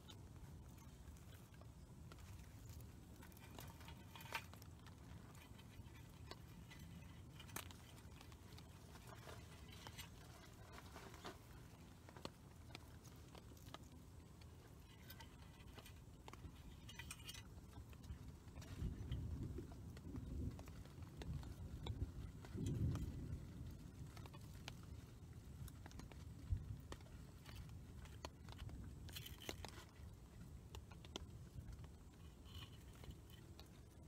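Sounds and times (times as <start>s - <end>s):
small fire crackling: 0.0s - 34.0s.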